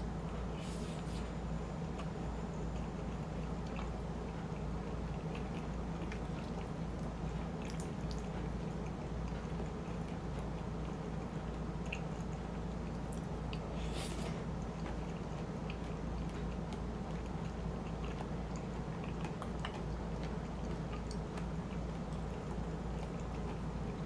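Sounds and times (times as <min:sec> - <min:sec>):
steady low hum: 0:00.0 - 0:24.0
person chewing food: 0:03.6 - 0:11.0, 0:11.7 - 0:24.0.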